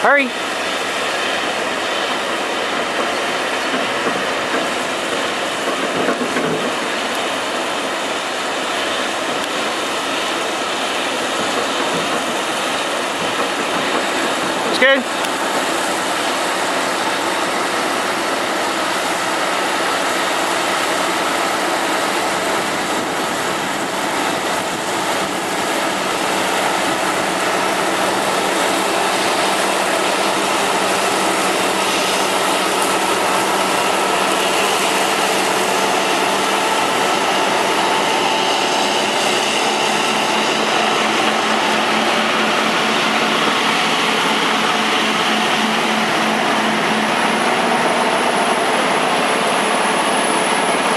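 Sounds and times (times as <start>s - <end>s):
harvester mechanical drone: 0.0s - 50.9s.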